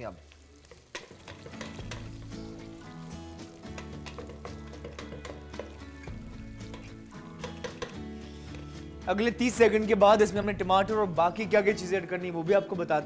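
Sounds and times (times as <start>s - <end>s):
onions sizzling in a pot: 0.0s - 12.3s
instrumental background music: 0.7s - 13.0s.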